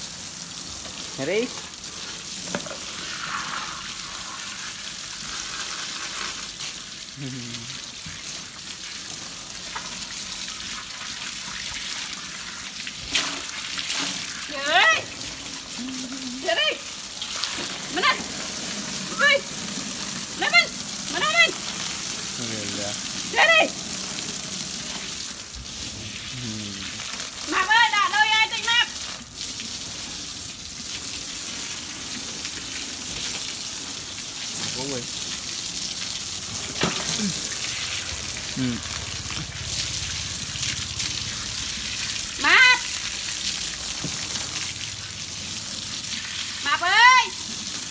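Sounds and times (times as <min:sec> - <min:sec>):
hose water spraying: 0:00.0 - 0:47.9
water splashing: 0:00.0 - 0:47.9.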